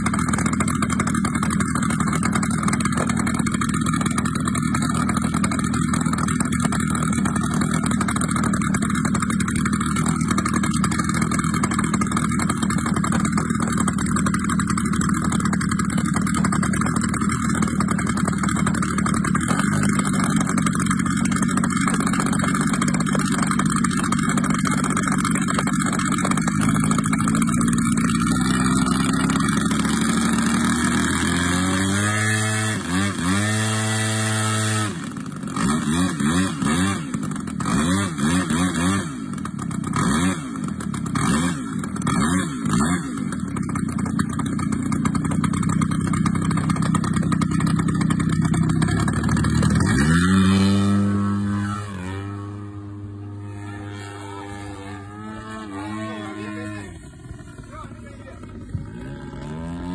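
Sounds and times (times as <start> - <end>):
model plane engine revving: 0.0 - 59.9.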